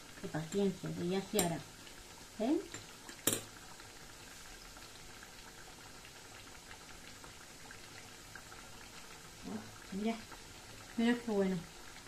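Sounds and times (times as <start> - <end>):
dough frying in hot oil: 0.0 - 12.0.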